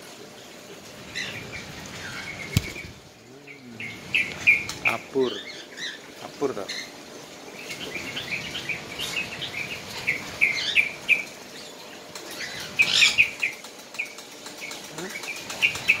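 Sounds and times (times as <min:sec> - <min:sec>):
parakeets chirping: 0:01.1 - 0:07.0, 0:07.6 - 0:16.0.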